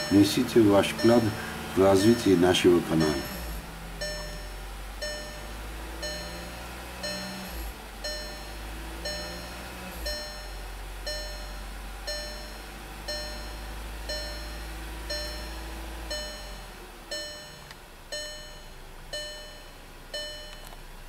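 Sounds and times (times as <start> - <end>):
dashboard warning chime: 0.0 - 20.8
car engine idling: 0.0 - 21.0.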